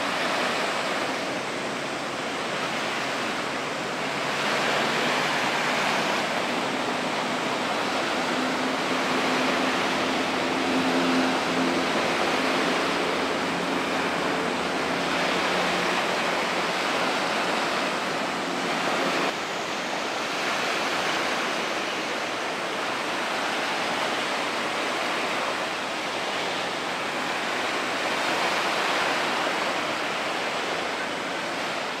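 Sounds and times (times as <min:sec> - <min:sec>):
sea water rushing: 0:00.0 - 0:32.0
wind: 0:00.0 - 0:32.0.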